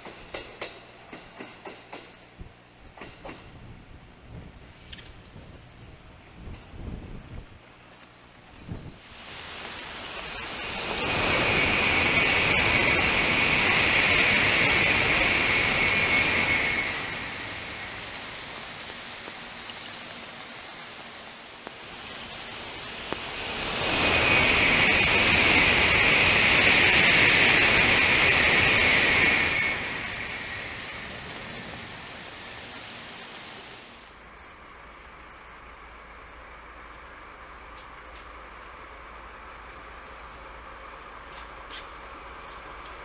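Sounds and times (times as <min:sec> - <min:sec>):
high-speed trains passing: 0:00.0 - 0:43.0
rain hiss: 0:08.6 - 0:43.0.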